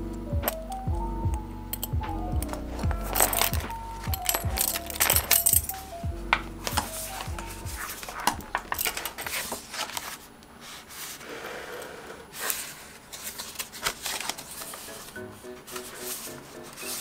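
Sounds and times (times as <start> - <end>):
paper pages rustling: 2.5 - 17.0.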